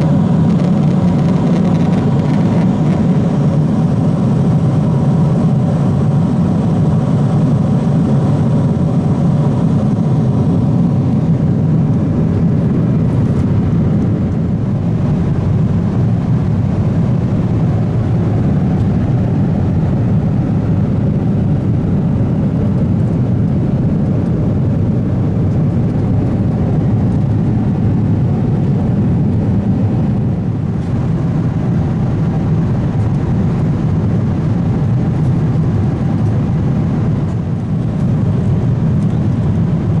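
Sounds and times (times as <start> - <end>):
aircraft cabin engine rumble: 0.0 - 40.0.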